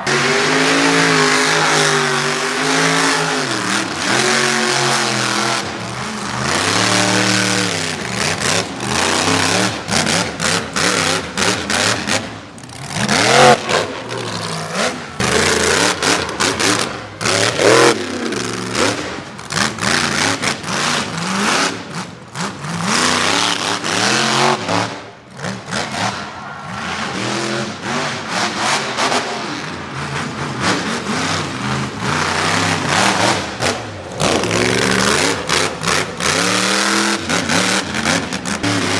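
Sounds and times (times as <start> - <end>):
monster truck engine revving: 0.0 - 38.9.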